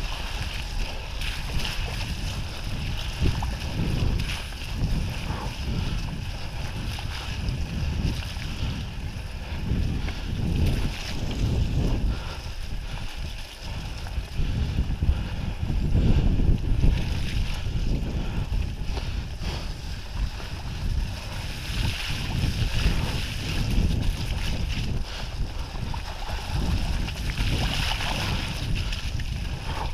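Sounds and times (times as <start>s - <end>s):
bike rattling on rough trail: 0.0s - 29.9s
rumble of bike tyres: 0.0s - 29.9s
wind buffeting microphone: 0.0s - 29.9s.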